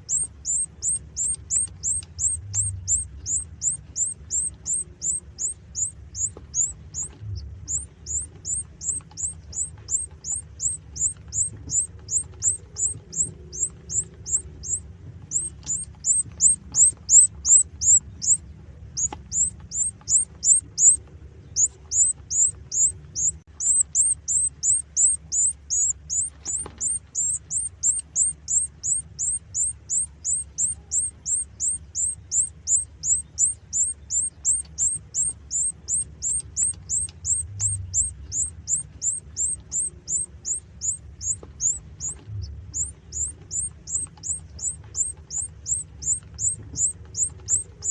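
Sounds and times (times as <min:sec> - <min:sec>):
chicks peeping: 0:00.0 - 0:47.9
faint low hum: 0:00.0 - 0:47.9.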